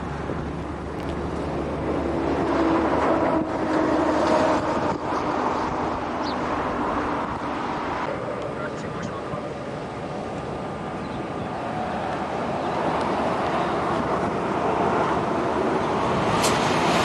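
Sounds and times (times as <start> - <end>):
vehicle passing: 0.0 - 17.0.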